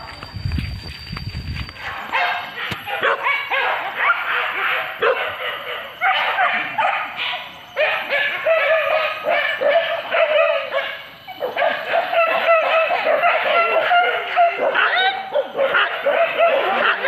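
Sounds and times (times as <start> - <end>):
dogs yelping and baying: 1.8 - 17.0.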